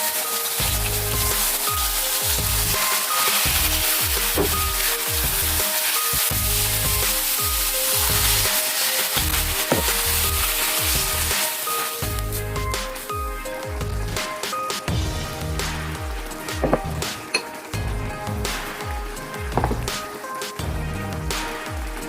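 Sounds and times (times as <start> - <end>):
food sizzling in frying pan: 0.0 - 20.8
background music: 0.0 - 22.0.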